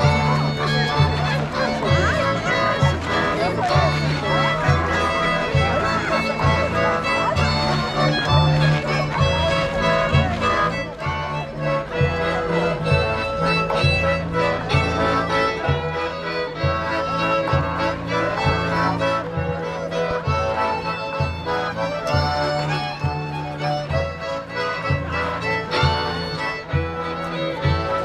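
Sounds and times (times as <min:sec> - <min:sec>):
accordion: 0:00.0 - 0:28.0
fiddle: 0:00.0 - 0:28.0
rhythmic bass line: 0:00.0 - 0:28.0.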